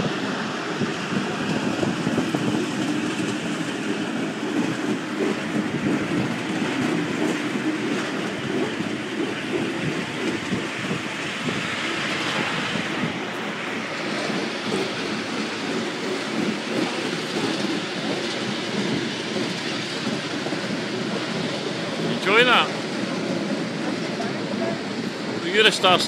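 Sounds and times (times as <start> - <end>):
miniature train wheels on rails: 0.0 - 26.0.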